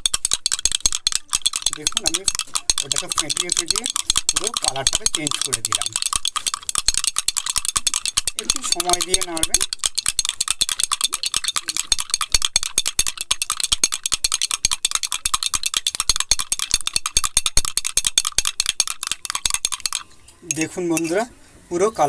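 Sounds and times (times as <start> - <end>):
spoon clinking in glass mug: 0.0 - 21.1.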